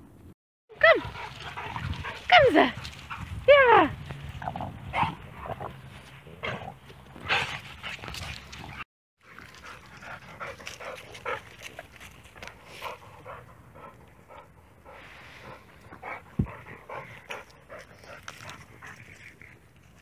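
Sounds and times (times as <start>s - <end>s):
dogs panting: 0.8s - 3.6s, 4.4s - 19.6s.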